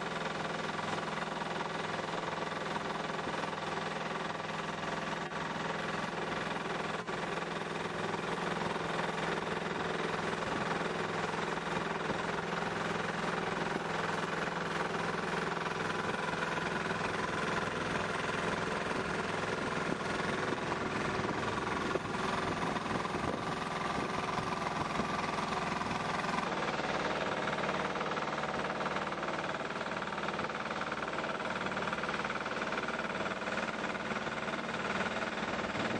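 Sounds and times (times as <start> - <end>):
boat engine droning: 0.0 - 35.9
wind: 0.0 - 35.9.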